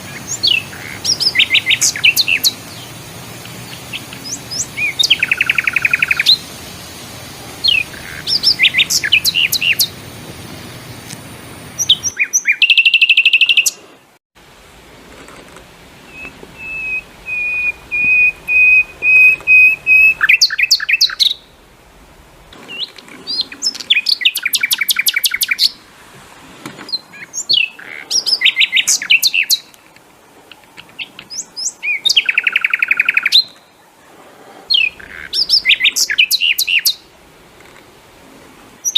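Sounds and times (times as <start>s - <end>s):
songbirds chirping and trilling: 0.0s - 14.1s, 16.0s - 25.8s, 26.6s - 38.0s, 38.7s - 38.9s.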